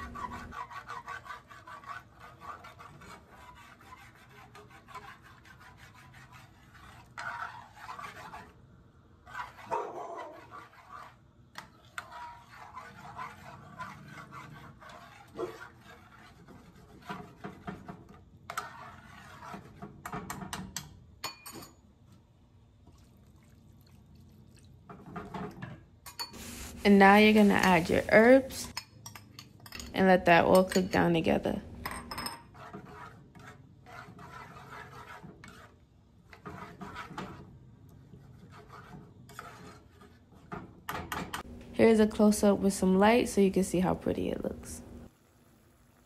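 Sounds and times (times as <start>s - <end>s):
metal spoon scraping pan: 0.0s - 8.6s, 9.2s - 21.7s, 26.1s - 44.8s.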